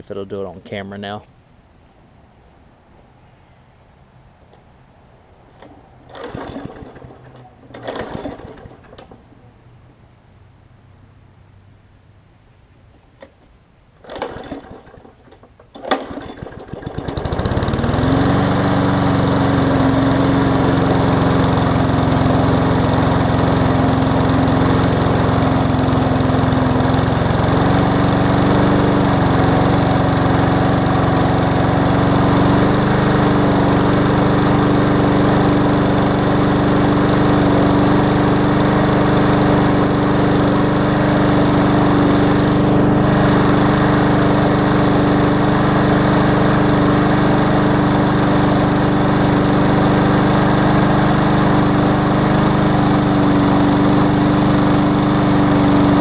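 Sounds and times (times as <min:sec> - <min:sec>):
lawn mower pull cord: 0:05.5 - 0:09.2, 0:14.0 - 0:56.0
lawn mower engine running: 0:05.5 - 0:09.4, 0:14.0 - 0:56.0.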